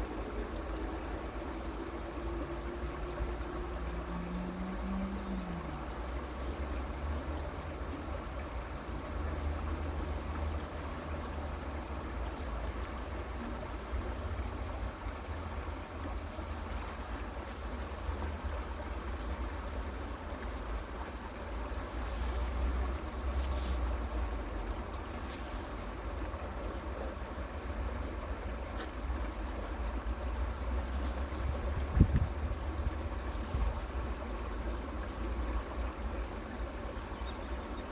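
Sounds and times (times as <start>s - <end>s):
creek water flowing: 0.0s - 37.9s.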